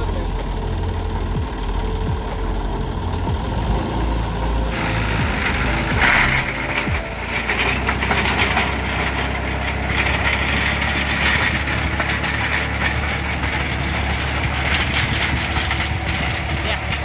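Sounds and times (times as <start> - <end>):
rotavator blades churning soil: 0.0 - 17.0
tractor engine running under load: 0.0 - 17.0.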